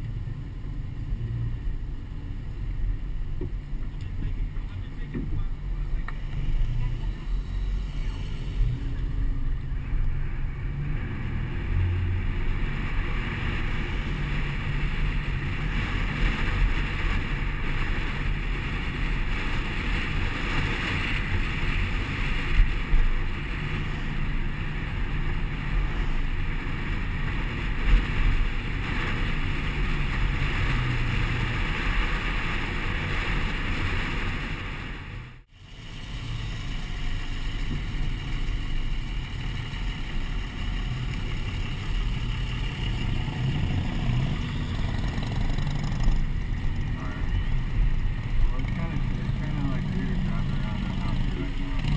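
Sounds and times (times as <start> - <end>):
truck rumble: 0.0 - 51.9
truck tyres on wet road: 0.0 - 51.9.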